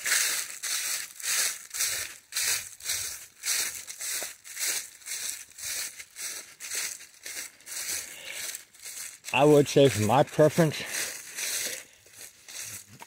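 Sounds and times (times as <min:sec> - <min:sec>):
footsteps crunching: 0:00.0 - 0:13.0.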